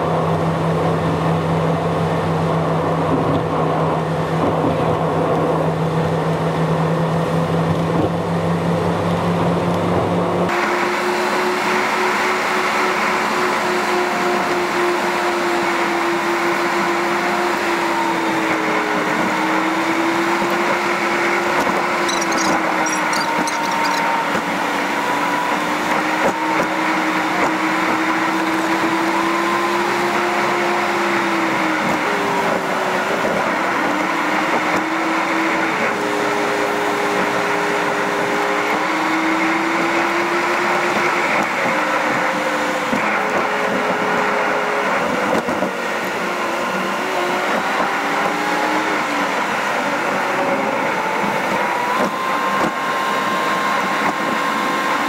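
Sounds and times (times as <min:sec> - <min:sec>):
car engine hum: 0:00.0 - 0:55.0
road and tyre noise: 0:00.0 - 0:55.0.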